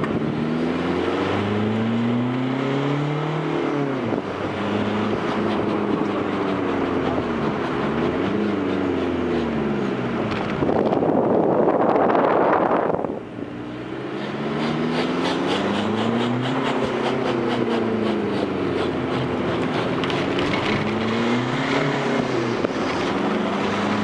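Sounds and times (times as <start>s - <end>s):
diesel engine accelerating: 0.0s - 24.0s.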